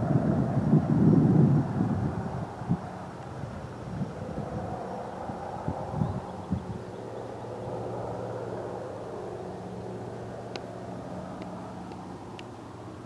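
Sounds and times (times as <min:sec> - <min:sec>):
propeller engines droning: 0:00.0 - 0:13.0.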